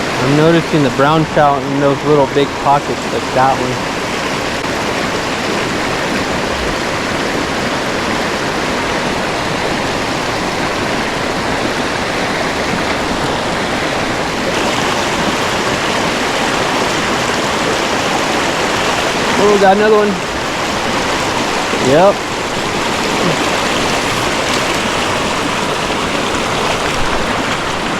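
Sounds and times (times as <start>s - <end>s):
water rushing over rocks: 0.0s - 27.9s.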